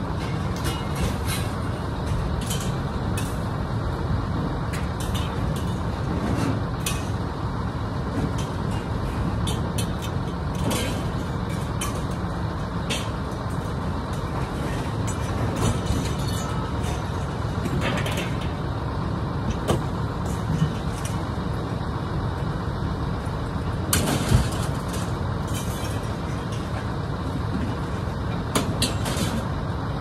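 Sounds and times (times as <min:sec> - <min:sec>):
heavy engine rumbling: 0:00.0 - 0:30.0.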